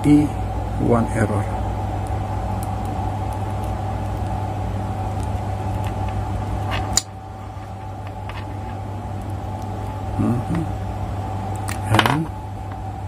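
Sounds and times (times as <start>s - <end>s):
faint steady whine: 0.0s - 13.0s
steady low hum: 0.0s - 13.0s.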